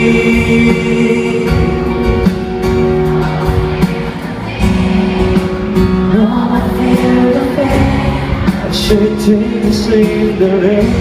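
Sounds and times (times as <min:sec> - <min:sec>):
person singing: 0:00.0 - 0:02.2, 0:04.1 - 0:11.0
live band music: 0:00.0 - 0:11.0.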